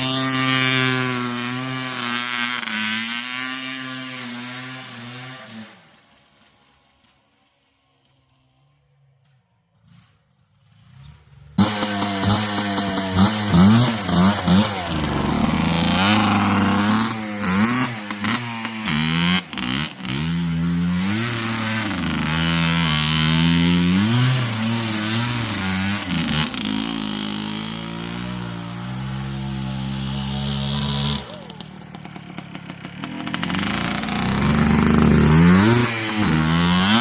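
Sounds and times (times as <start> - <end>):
atv engine revving: 0.0 - 6.2, 9.8 - 37.0.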